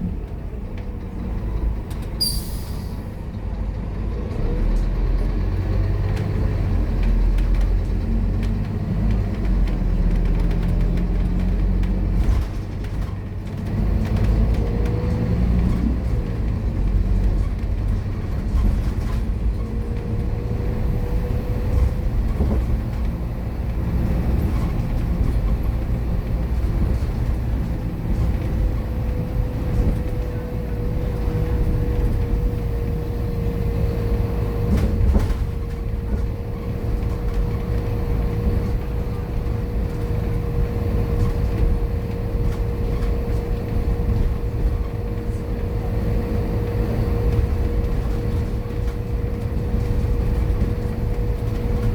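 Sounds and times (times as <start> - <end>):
bus engine rumble: 0.0 - 51.9.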